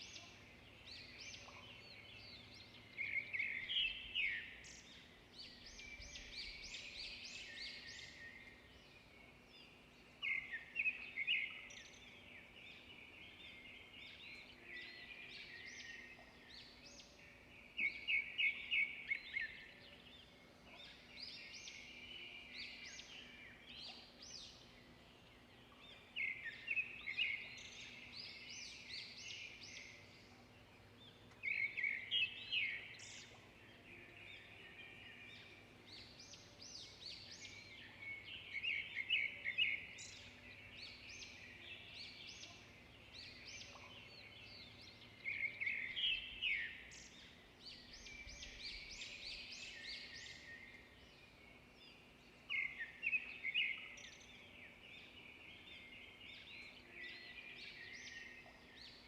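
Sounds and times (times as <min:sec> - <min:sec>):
bird loud song phrase: 0:00.0 - 0:59.0
birds chirping and twittering: 0:00.0 - 0:59.0.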